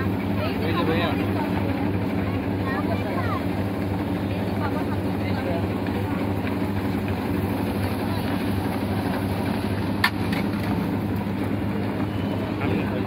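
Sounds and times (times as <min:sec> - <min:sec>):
ice cream machine motor hum: 0:00.0 - 0:13.0.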